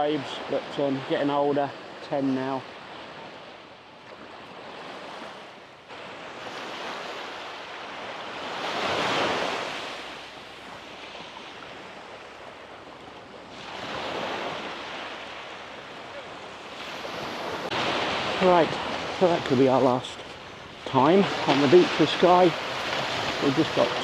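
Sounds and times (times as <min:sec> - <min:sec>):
sea waves washing onto beach: 0:00.0 - 0:24.0.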